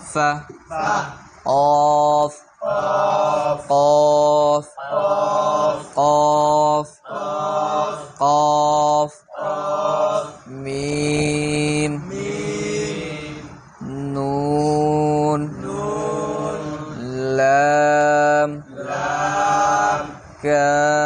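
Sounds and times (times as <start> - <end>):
man chanting sing-song recitation: 0.0 - 21.0.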